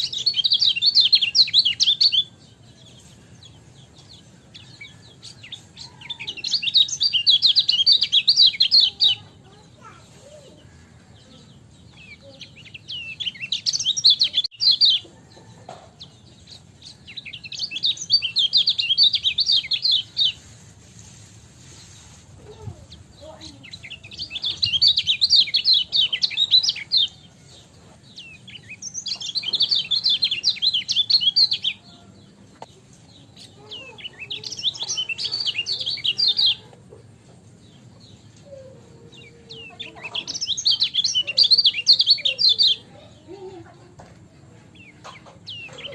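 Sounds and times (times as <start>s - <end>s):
bird twittering song: 0.0s - 20.6s, 21.8s - 43.6s, 44.5s - 45.9s.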